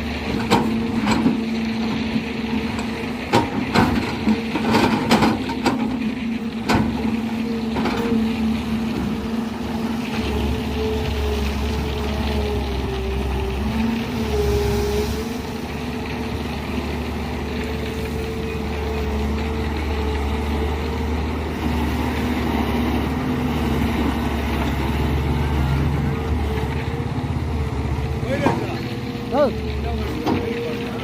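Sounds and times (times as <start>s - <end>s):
diesel engine humming: 0.0s - 31.0s.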